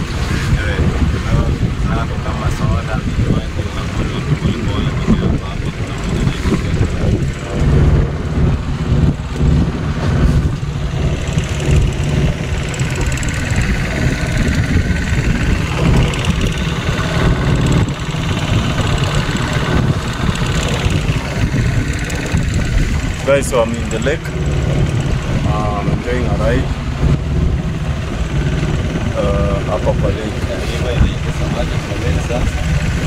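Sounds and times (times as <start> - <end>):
outboard motor running: 0.0 - 33.0
wind and water rushing: 0.0 - 33.0.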